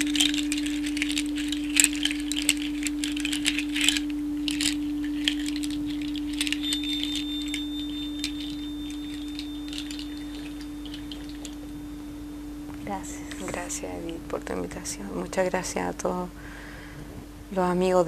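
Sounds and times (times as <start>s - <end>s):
faint high ringing tone: 0.0s - 16.0s
singing bowl ringing: 0.0s - 16.0s.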